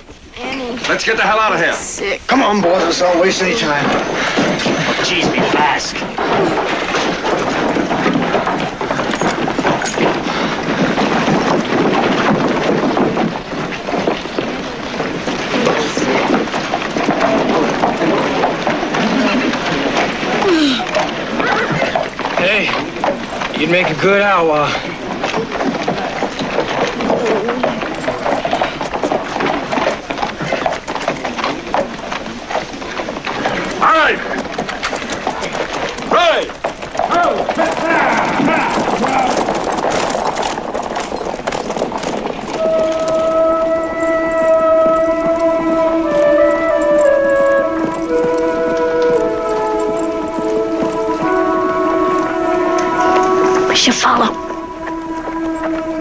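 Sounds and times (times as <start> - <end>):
horses galloping hoofbeats: 0.0 - 56.0.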